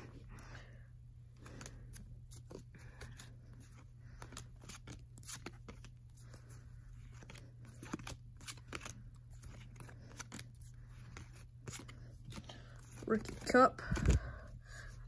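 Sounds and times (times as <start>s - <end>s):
cards sliding against cards: 1.4s - 14.2s.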